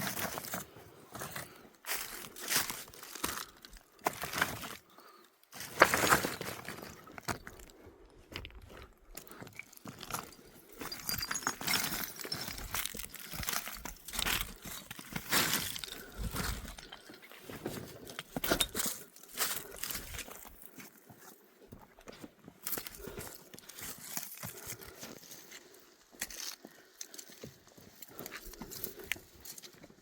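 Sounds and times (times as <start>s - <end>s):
footsteps crunching on stony ground: 0.0s - 4.9s, 5.5s - 30.0s.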